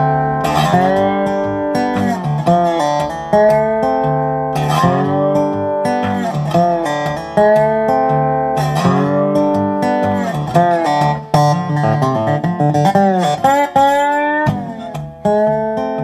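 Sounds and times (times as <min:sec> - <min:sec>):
fingerpicked resonator guitar blues: 0:00.0 - 0:16.0.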